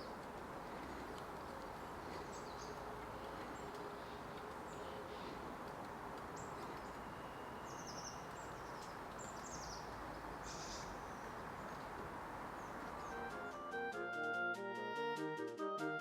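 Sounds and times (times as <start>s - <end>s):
small birds chirping: 0.0s - 13.5s
outdoor ambience hiss: 0.0s - 15.8s.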